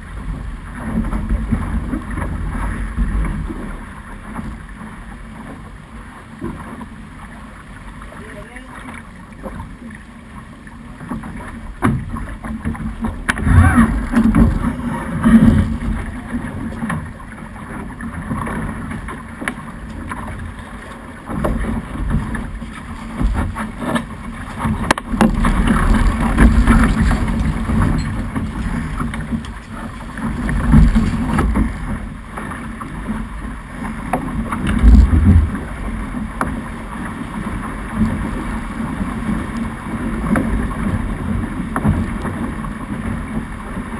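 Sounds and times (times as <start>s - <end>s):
water rushing along hull: 0.0s - 43.9s.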